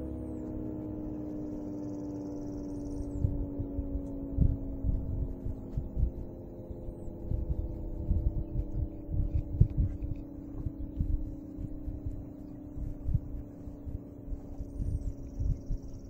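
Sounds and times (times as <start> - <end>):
warning siren winding down: 0.0 - 16.0
wind buffeting microphone: 0.0 - 16.0.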